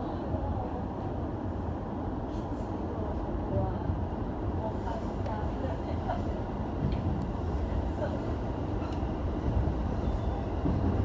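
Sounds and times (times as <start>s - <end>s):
electric train running rumble: 0.0s - 11.0s.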